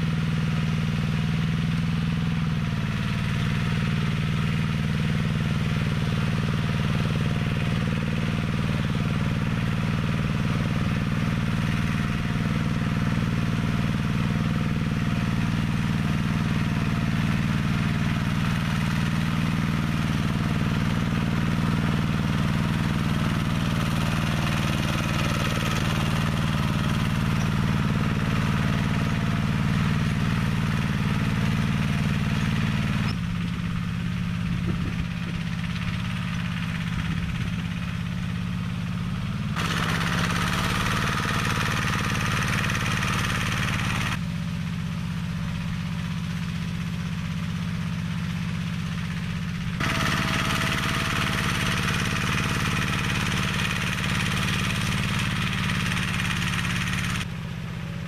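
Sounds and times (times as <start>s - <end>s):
small tractor engine running: 0.0s - 58.0s.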